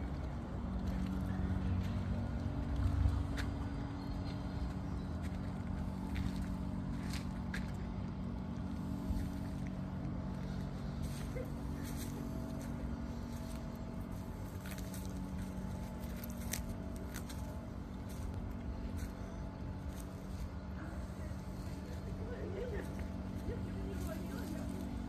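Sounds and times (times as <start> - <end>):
faint steady tones: 0.0 - 25.0
low hum: 0.0 - 25.0.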